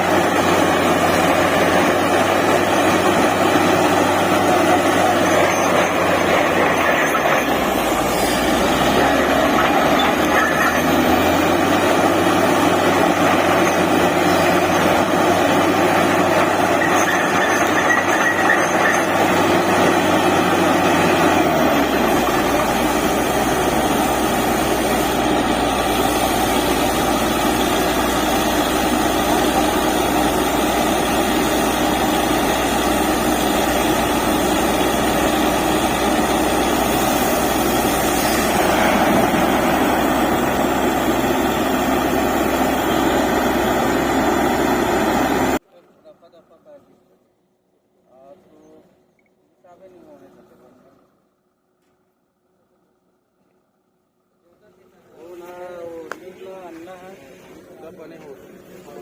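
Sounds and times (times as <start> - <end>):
drilling rig diesel engine: 0.0 - 49.0, 49.6 - 59.0.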